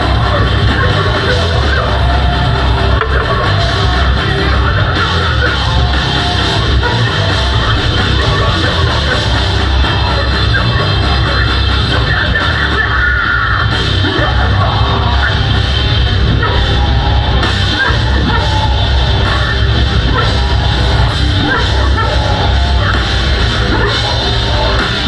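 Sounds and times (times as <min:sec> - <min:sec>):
bass: 0:00.0 - 0:25.0
distorted guitars: 0:00.0 - 0:25.0
drums: 0:00.0 - 0:25.0
screamed vocals: 0:00.0 - 0:25.0.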